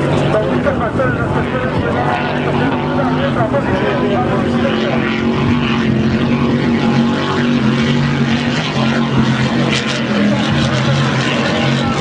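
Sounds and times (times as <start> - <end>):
powerboat engines droning: 0.0 - 12.0.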